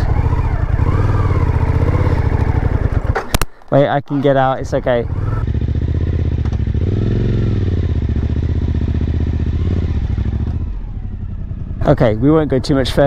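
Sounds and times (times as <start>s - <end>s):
motorcycle engine running: 0.0s - 3.4s, 4.2s - 13.0s.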